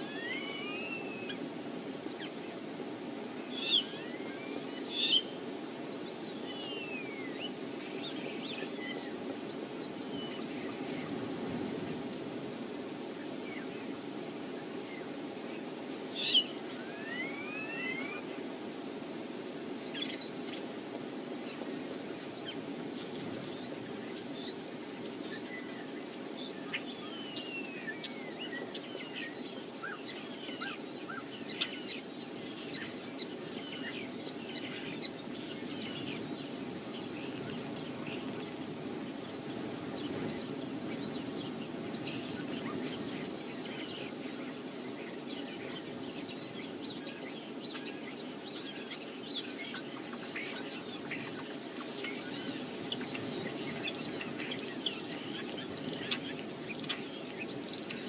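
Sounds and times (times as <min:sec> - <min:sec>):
small birds chirping: 0:00.0 - 0:58.0
wind over microphone: 0:00.0 - 0:58.0.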